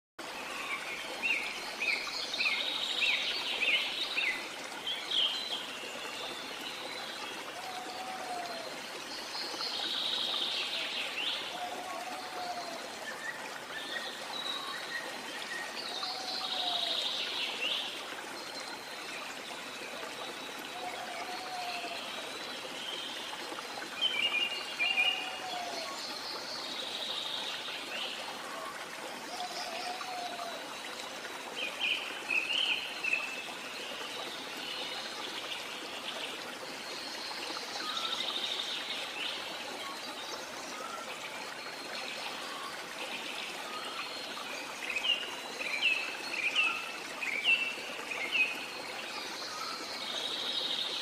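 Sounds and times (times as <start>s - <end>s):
running water hiss: 0.2s - 51.0s.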